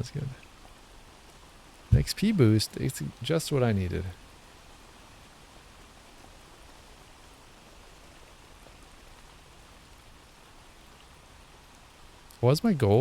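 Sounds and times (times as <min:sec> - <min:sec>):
faint steady rain: 0:00.0 - 0:13.0.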